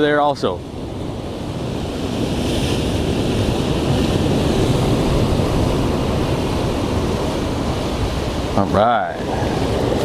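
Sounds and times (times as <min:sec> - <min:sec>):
ocean surf on rocks: 0:00.0 - 0:10.0
wind rumbling on microphone: 0:00.0 - 0:10.0.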